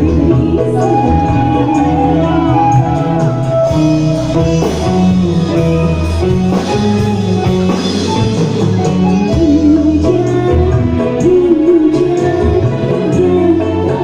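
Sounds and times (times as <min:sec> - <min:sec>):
band playing pop music: 0:00.0 - 0:14.0.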